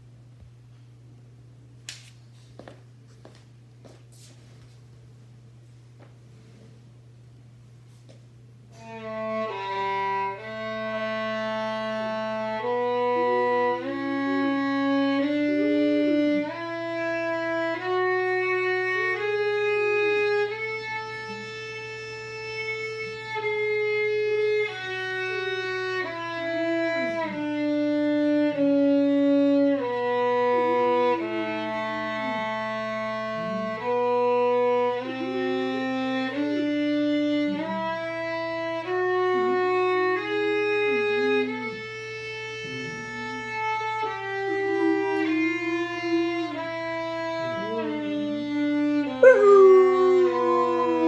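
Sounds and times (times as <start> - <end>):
violin playing slow melody: 8.7 - 51.0.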